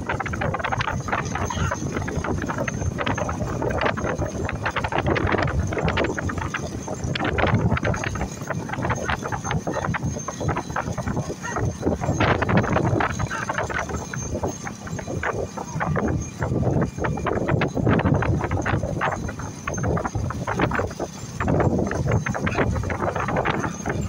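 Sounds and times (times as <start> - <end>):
continuous rumble: 0.0 - 24.0
dense irregular clattering: 0.0 - 24.0
wind buffeting microphone: 0.0 - 24.0.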